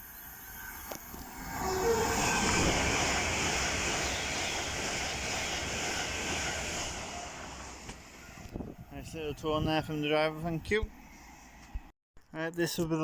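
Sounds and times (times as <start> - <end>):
train passing at speed: 0.0 - 11.8.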